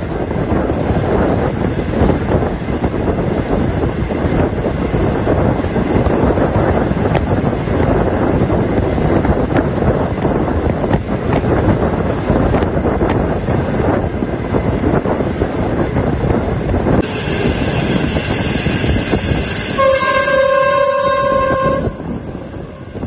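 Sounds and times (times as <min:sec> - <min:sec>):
train running on track: 0:00.0 - 0:23.0
wind buffeting microphone: 0:00.0 - 0:23.0.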